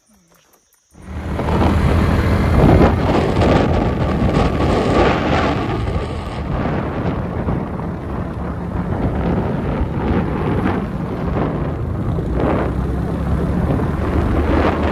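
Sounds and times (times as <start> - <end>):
low engine drone: 0.0 - 14.9
wind buffeting microphone: 1.0 - 14.9.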